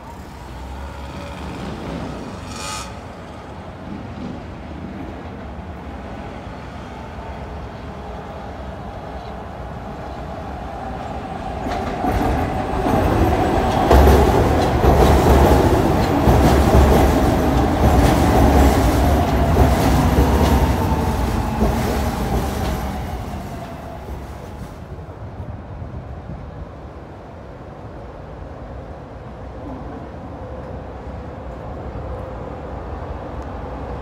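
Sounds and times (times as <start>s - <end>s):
elevated train rumbling and clattering: 0.0s - 34.0s.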